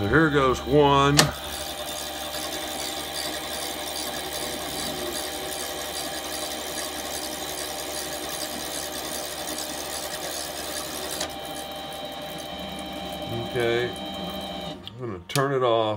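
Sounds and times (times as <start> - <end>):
lathe motor whine: 0.0 - 15.1.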